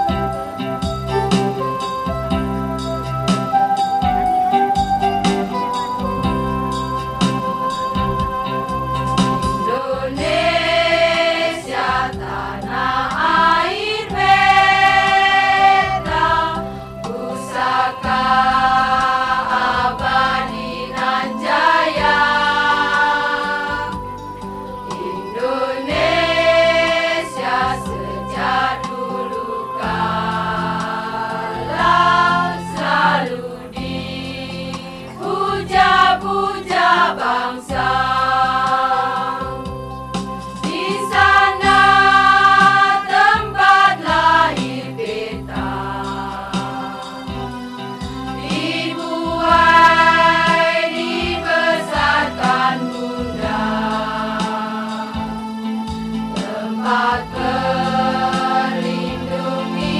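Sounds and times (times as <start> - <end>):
song with voices singing: 3.3 - 59.9.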